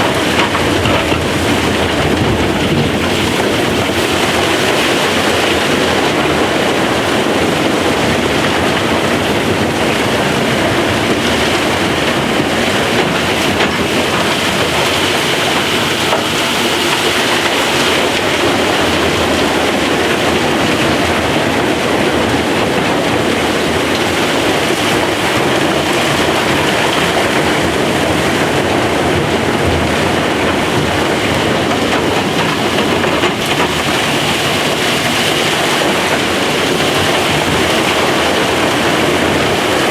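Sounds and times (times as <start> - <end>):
mining machinery running: 0.0 - 39.9.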